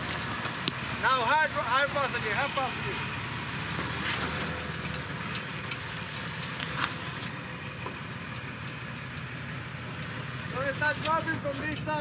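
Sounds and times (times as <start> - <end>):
off-road engine rumbling: 0.0 - 12.0.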